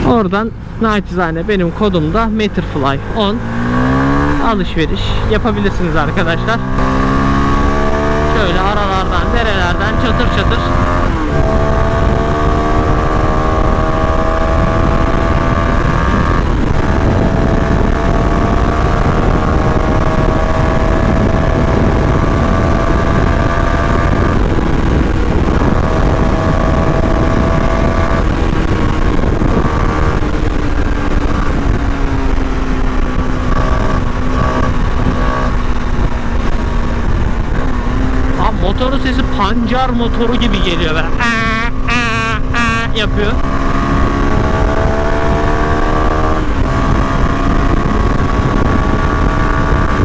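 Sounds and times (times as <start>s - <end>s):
motorcycle engine accelerating: 0.0s - 50.0s
wind rush: 0.0s - 50.0s.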